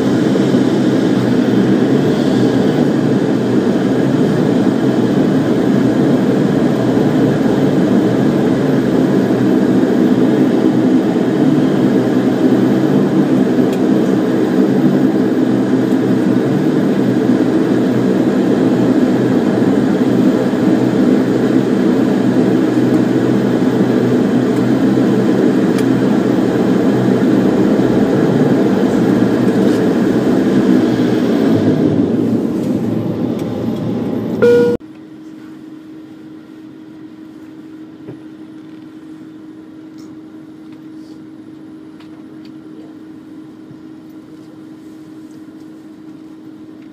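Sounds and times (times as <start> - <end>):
turboprop engines droning in cabin: 0.0 - 46.9.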